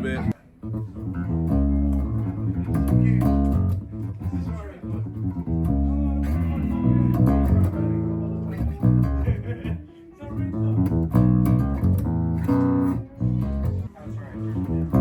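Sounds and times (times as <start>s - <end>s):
electric bass guitar plucking: 0.0s - 15.0s.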